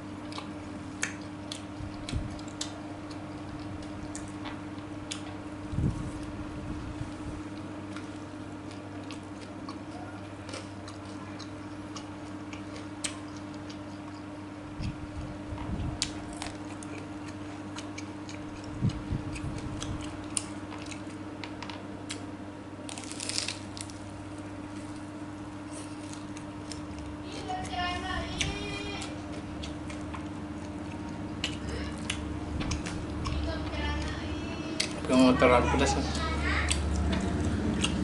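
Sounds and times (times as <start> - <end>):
steady low hum: 0.0 - 38.0
person chewing and biting: 0.2 - 5.5, 7.1 - 27.2, 29.0 - 33.4, 36.7 - 38.0.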